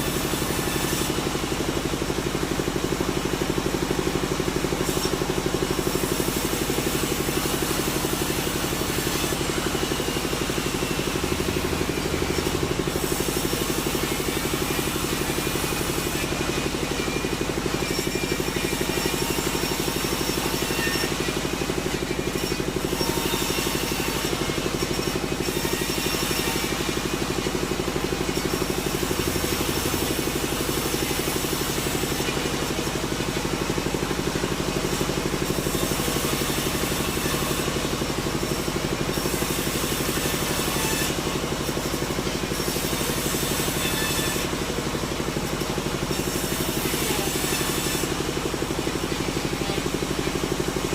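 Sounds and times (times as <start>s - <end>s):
sawmill machinery droning: 0.0s - 50.9s.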